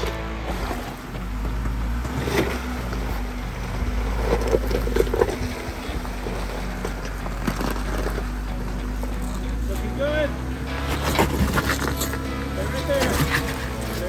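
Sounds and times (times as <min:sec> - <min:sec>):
off-road vehicle engine rumbling: 0:00.0 - 0:14.0.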